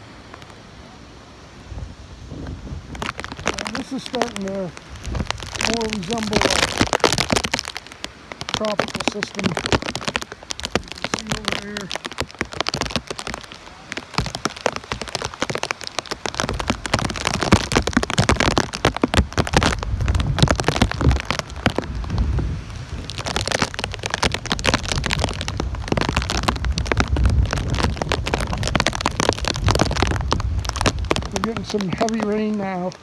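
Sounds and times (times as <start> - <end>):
heavy rain: 0.0 - 33.0
wind rumbling on microphone: 0.0 - 33.0.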